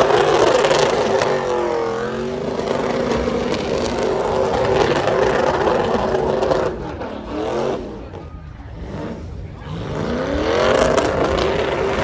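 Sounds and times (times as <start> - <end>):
loud rushing noise: 0.0 - 12.0
truck engine at high revs: 0.0 - 12.0.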